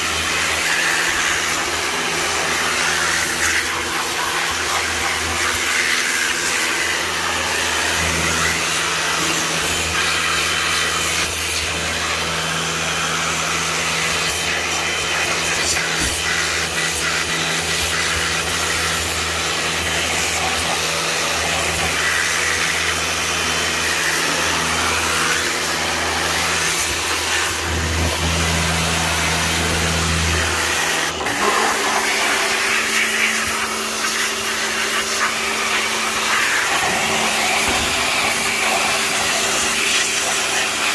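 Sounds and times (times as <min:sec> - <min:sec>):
pressure washer motor humming: 0:00.0 - 0:40.9
water jet hissing: 0:00.0 - 0:40.9.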